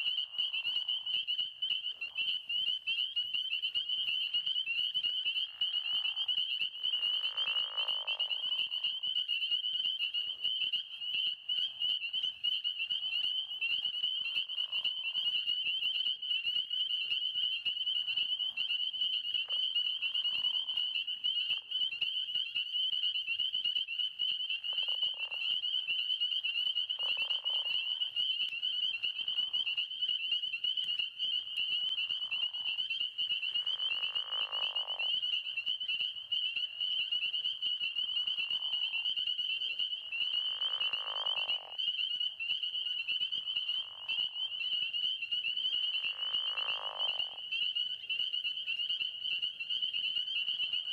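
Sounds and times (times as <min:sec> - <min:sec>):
frogs trilling: 0:00.0 - 0:50.9
lower-pitched frog calls: 0:00.0 - 0:50.9.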